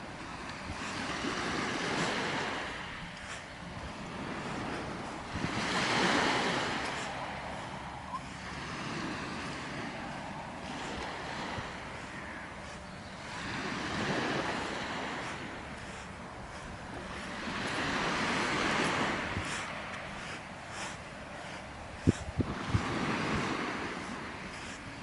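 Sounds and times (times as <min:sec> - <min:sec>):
small waves washing on sand: 0:00.0 - 0:25.0.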